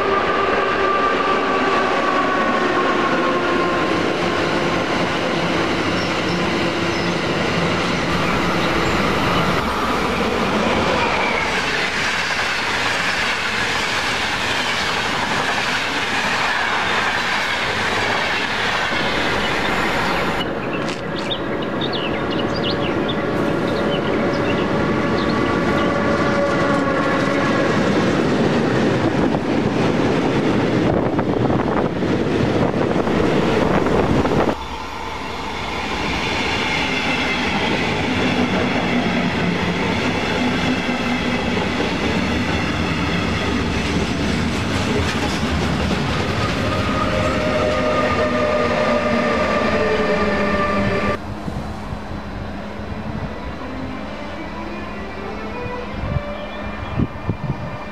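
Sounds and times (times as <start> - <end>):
electric locomotive whine: 0.0 - 57.9
train wheel and rail noise: 0.0 - 57.9.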